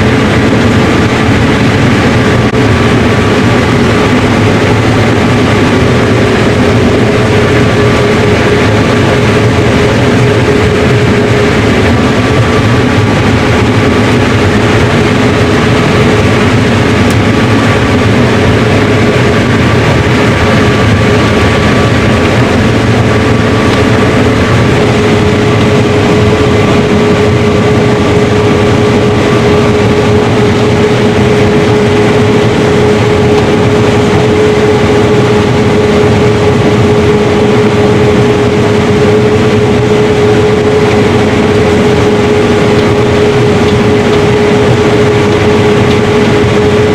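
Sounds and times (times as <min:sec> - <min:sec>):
combine harvester droning: 0:00.0 - 0:46.9.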